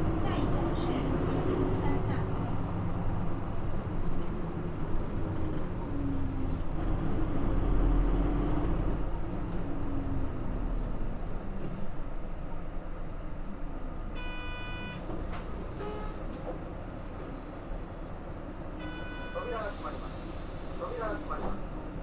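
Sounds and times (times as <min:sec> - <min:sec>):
bus diesel engine pulling: 0:00.0 - 0:14.2, 0:15.0 - 0:18.8, 0:19.4 - 0:22.0.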